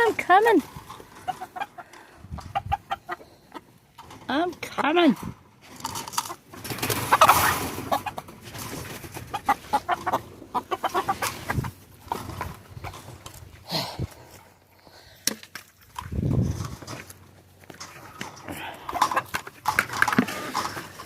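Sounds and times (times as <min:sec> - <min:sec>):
roosters clucking and calling: 0:00.0 - 0:21.0.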